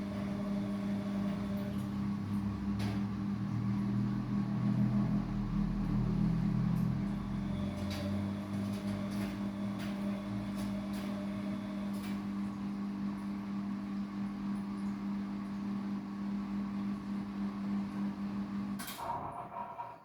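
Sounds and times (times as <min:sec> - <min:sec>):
washing machine electric hum: 0:00.0 - 0:20.0.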